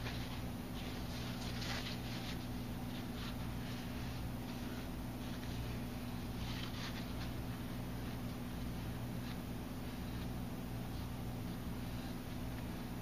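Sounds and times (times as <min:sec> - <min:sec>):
paper towel rubbing: 0:00.0 - 0:13.0
steady low hum: 0:00.0 - 0:13.0.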